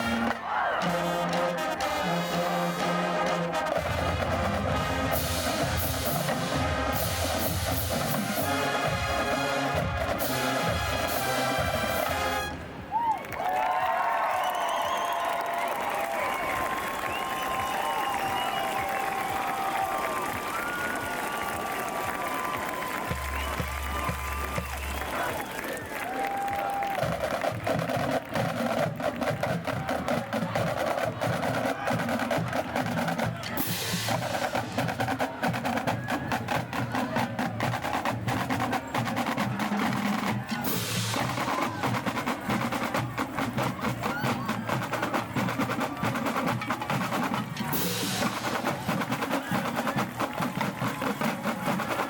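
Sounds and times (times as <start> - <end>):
marching drumline cadence: 0.0 - 13.9, 16.1 - 52.0.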